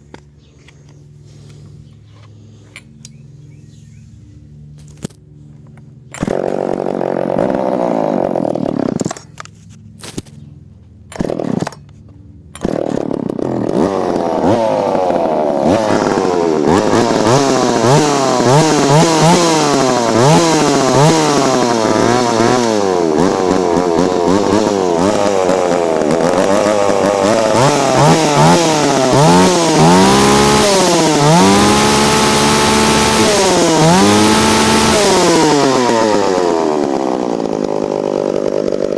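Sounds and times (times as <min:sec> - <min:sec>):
chainsaw engine revving: 0:06.1 - 0:10.2, 0:11.1 - 0:11.9, 0:12.5 - 0:38.9.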